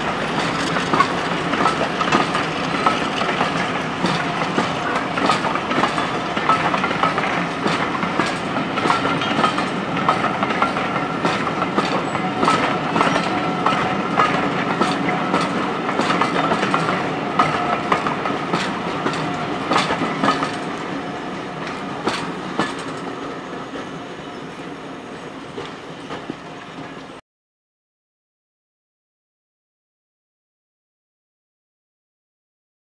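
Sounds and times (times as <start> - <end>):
train wheels clicking over rail joints: 0.0 - 27.2.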